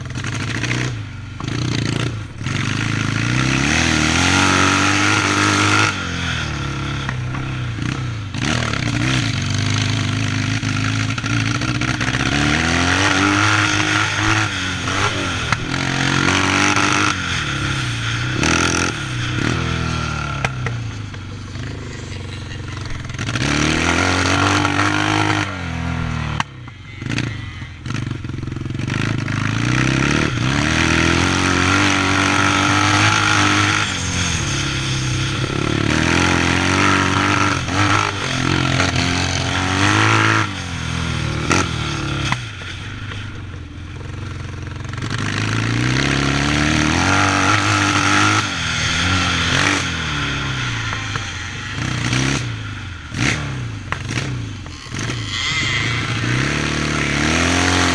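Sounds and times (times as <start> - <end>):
motocross engine revving: 0.0 - 57.9.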